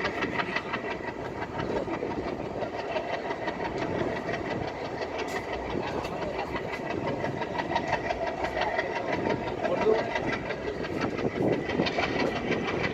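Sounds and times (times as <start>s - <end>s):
train rumbling on track: 0.0s - 12.9s
wheels clicking and rattling: 0.0s - 12.9s.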